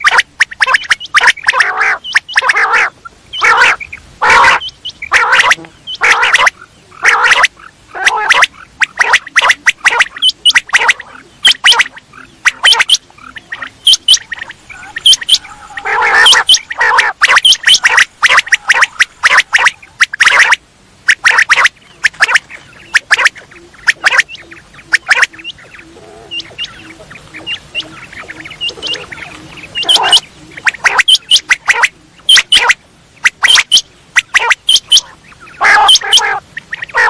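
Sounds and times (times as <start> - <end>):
quail raspy calls: 0.0 - 37.0.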